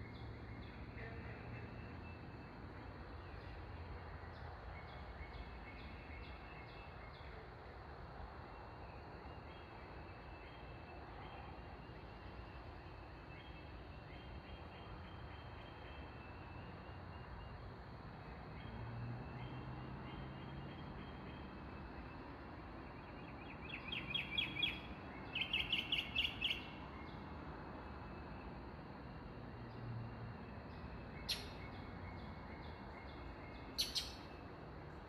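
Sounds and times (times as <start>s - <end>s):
songbirds singing faintly: 0.0s - 35.0s.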